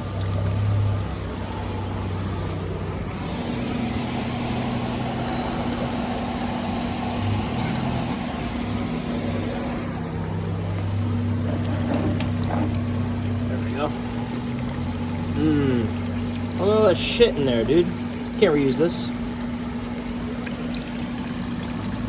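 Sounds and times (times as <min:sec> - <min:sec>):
coolant pouring into a pan: 0:00.0 - 0:09.9, 0:11.0 - 0:22.0.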